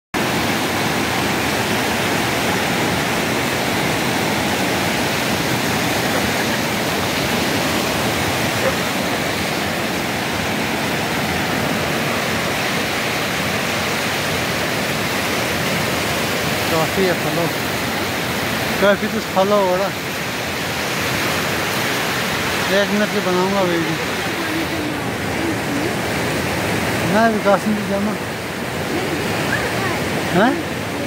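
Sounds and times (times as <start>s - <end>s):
river rushing through rapids: 0.2s - 31.0s.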